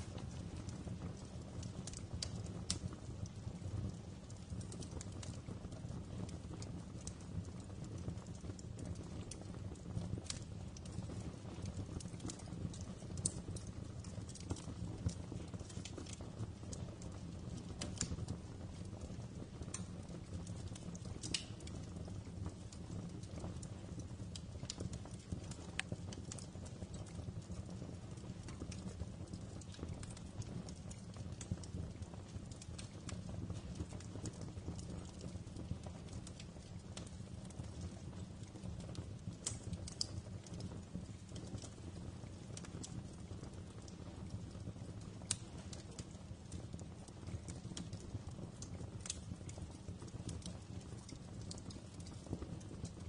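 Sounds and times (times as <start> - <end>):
fireplace fire crackling: 0.0 - 53.0.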